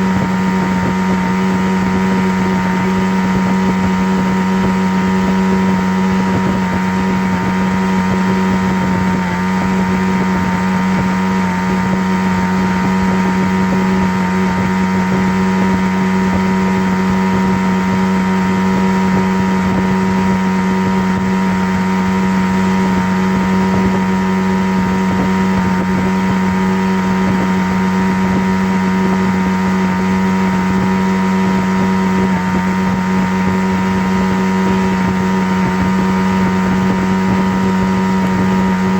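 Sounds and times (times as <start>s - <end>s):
low motor hum: 0.0s - 38.9s.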